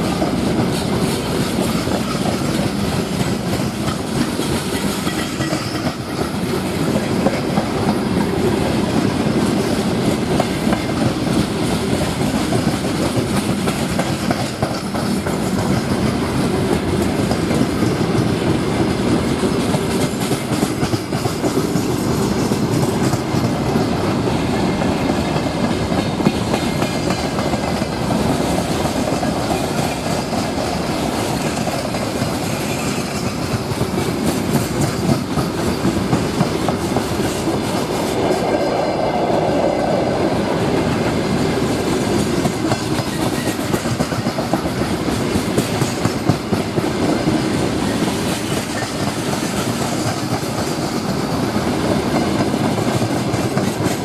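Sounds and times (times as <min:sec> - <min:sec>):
train wheels clattering over rail joints: 0:00.0 - 0:38.8, 0:40.3 - 0:54.0.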